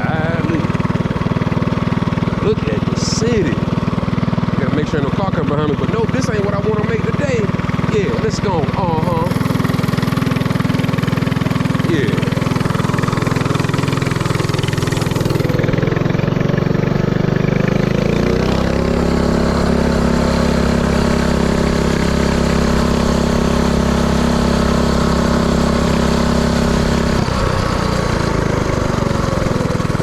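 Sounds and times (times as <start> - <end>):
mini-bike engine running: 0.0 - 30.0.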